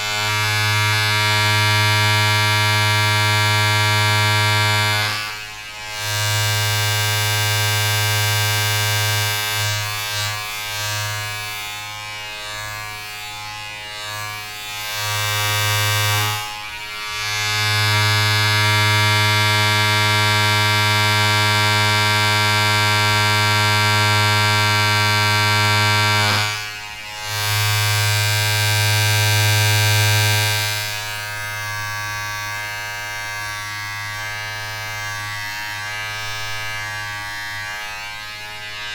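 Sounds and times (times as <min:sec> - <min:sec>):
small electric motor buzzing: 0:00.0 - 0:38.9.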